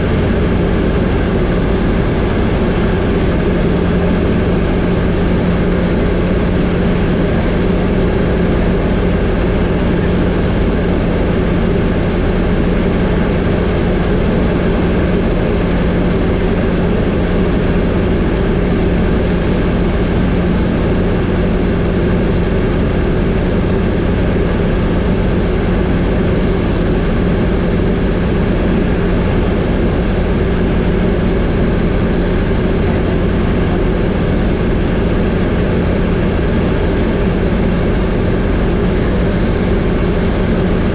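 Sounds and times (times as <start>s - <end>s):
helicopter flying: 0.0s - 40.9s.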